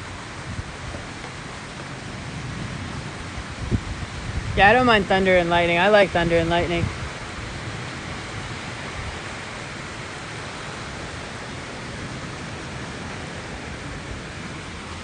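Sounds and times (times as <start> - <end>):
heavy wind-driven rain: 0.0 - 15.0.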